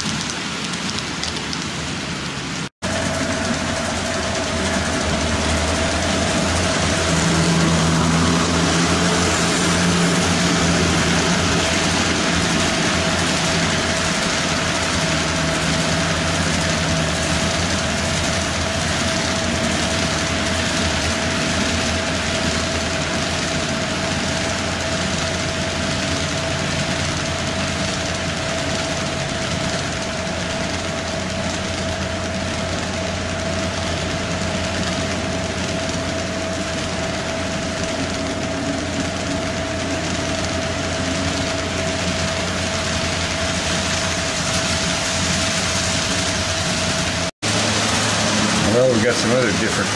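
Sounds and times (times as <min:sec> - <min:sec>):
constant high hum: 0:00.0 - 0:49.9
model train rolling: 0:00.0 - 0:49.9.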